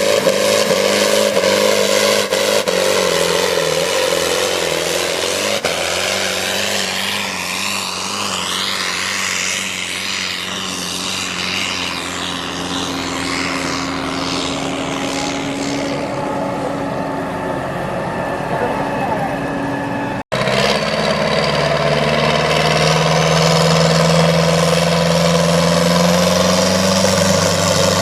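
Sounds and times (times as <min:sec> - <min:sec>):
high engine whine: 0:00.0 - 0:28.0
tractor engine drone: 0:00.0 - 0:28.0.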